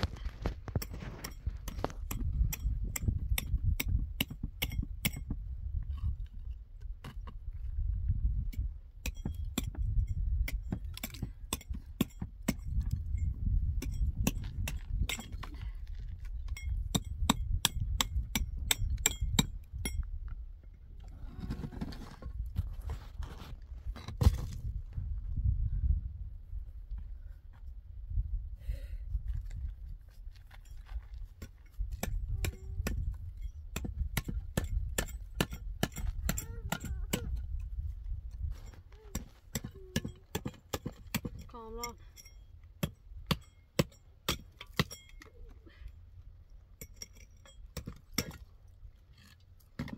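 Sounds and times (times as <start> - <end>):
wind rumble on microphone: 0.0 - 40.3.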